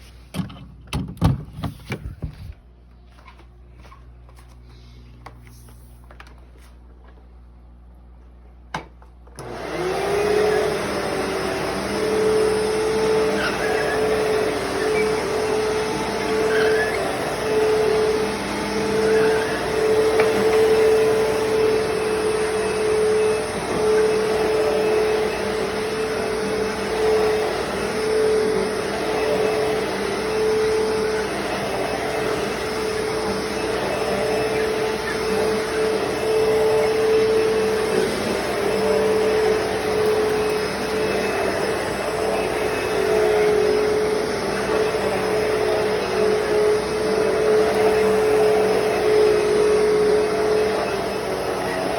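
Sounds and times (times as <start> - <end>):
upright vacuum cleaner running: 0.0 - 51.9.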